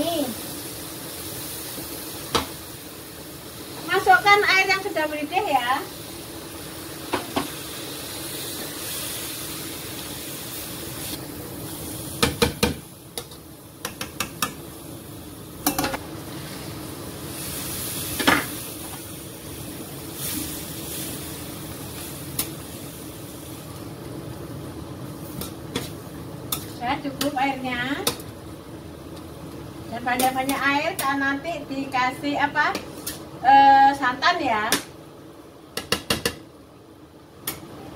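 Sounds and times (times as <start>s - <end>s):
water hissing and sizzling in pan: 0.0s - 34.6s.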